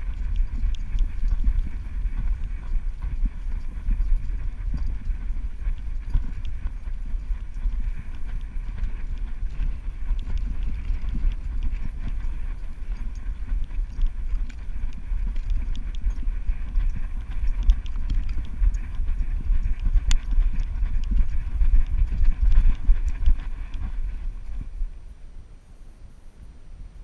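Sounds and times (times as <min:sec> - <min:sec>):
dog footsteps on snow: 0:00.0 - 0:24.8.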